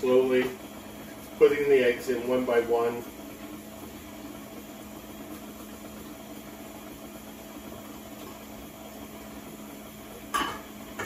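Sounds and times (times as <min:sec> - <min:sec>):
stand mixer motor hum: 0:00.0 - 0:11.0.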